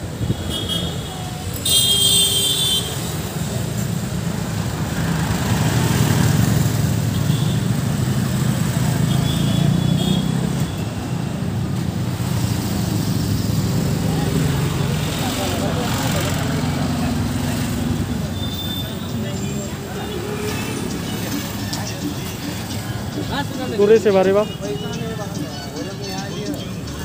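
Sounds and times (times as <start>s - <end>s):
vehicle engines running: 3.4s - 27.0s.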